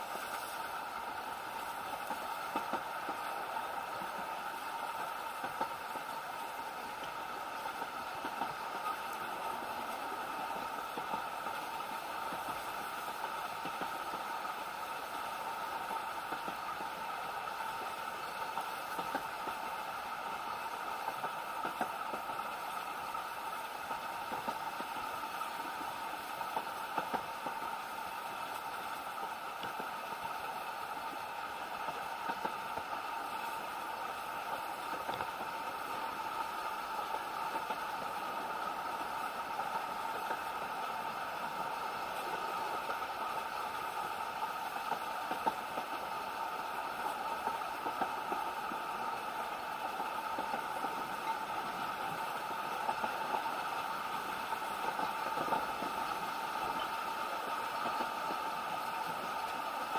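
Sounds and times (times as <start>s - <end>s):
railway carriage rattle and hum: 0.0s - 59.7s.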